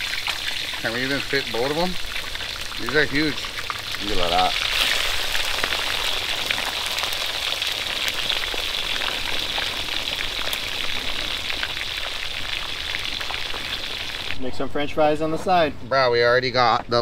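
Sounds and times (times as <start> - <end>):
fish deep-frying in oil: 0.0 - 14.4.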